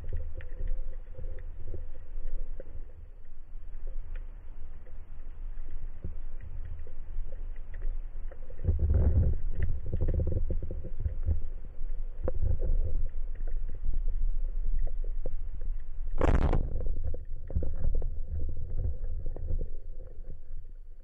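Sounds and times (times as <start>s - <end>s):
low underwater rumble: 0.0s - 21.0s
small underwater clicks: 0.0s - 21.0s.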